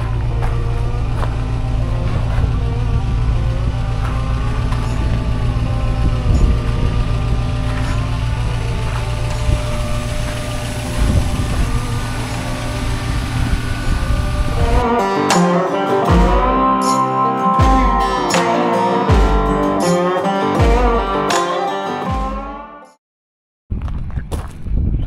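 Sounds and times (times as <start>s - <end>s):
truck engine idling: 0.0s - 21.4s.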